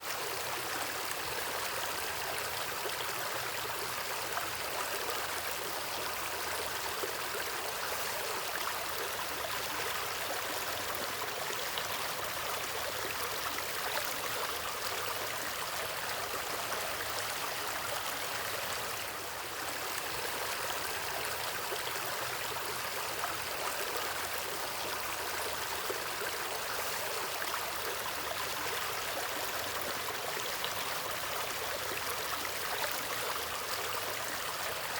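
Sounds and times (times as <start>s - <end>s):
stream flowing and trickling: 0.0s - 34.9s.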